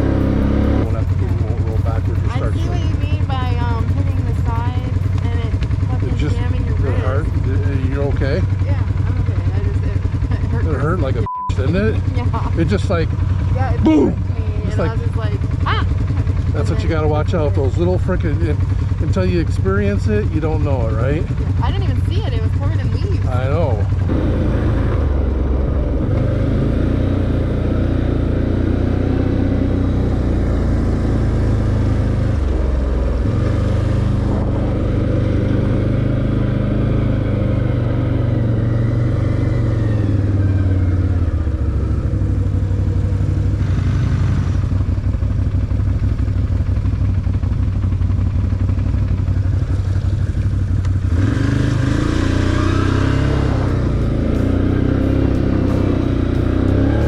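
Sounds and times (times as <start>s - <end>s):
quad bike engine running: 0.0s - 57.0s.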